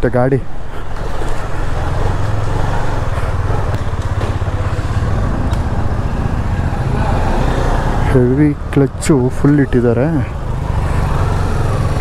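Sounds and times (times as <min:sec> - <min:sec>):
motorcycle engine and exhaust: 0:00.0 - 0:12.0.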